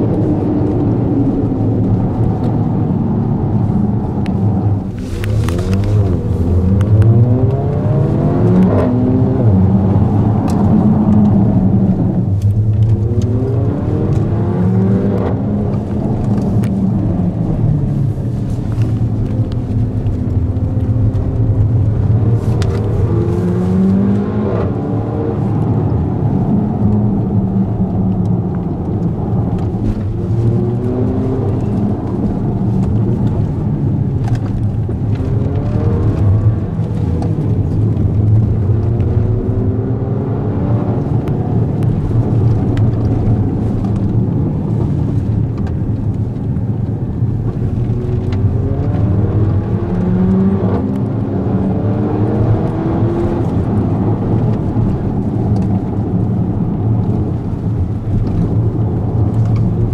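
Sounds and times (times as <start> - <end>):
car engine accelerating: 0.0 - 59.9
engine and road rumble: 0.0 - 59.9.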